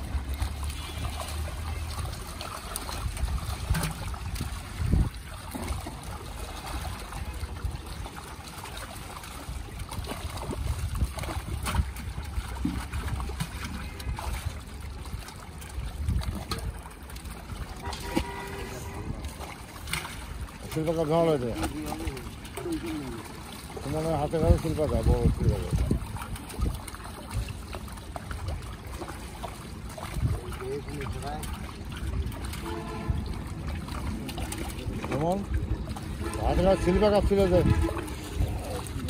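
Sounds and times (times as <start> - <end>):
fish thrashing in water: 0.0 - 39.0
splashes and slaps: 0.0 - 39.0
water sloshing: 0.0 - 39.0.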